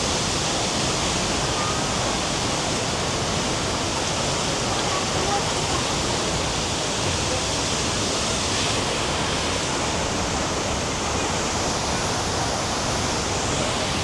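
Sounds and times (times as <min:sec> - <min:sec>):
heavy rain: 0:00.0 - 0:14.0
waterfall rushing: 0:00.0 - 0:14.0.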